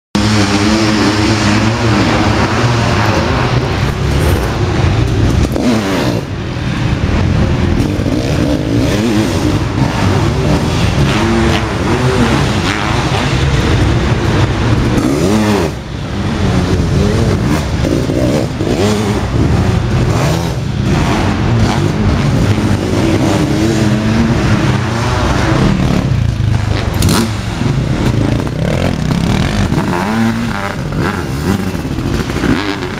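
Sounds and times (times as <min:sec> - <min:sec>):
motorcycle engines revving past: 0:00.2 - 0:32.9.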